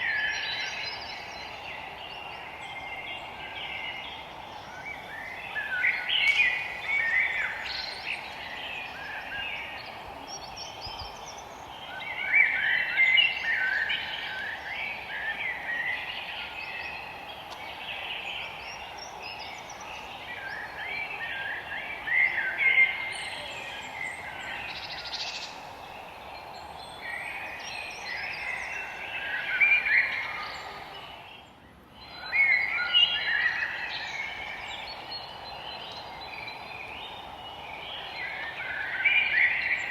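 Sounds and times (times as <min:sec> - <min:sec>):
songbirds singing: 0:00.0 - 0:39.9
steady low hiss: 0:00.0 - 0:39.9.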